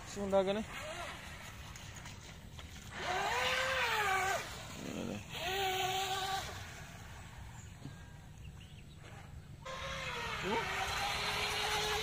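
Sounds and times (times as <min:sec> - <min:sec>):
rc boat motor whining: 0:00.0 - 0:12.0.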